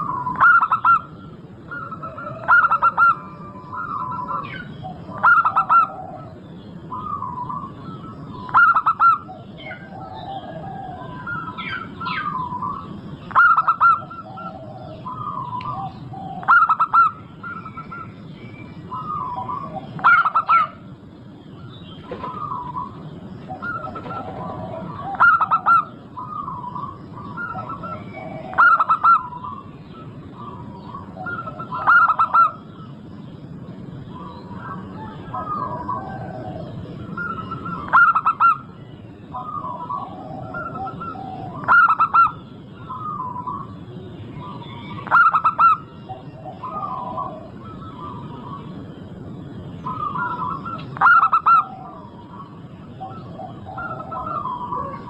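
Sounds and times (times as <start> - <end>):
doves cooing: 0.0 - 55.0
small birds chirping: 0.0 - 55.0.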